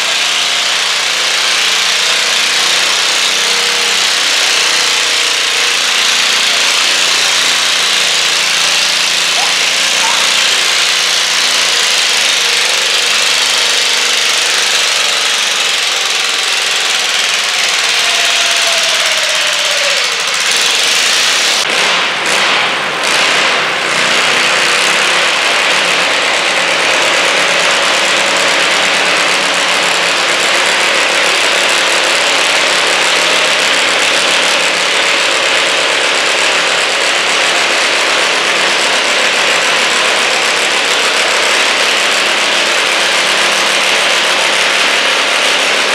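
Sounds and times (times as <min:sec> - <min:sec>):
garden tractor engines running: 0:00.0 - 0:45.9.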